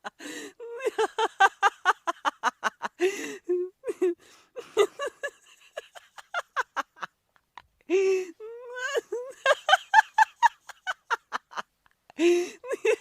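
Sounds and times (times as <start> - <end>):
woman laughing: 0.0 - 7.1, 7.8 - 13.0.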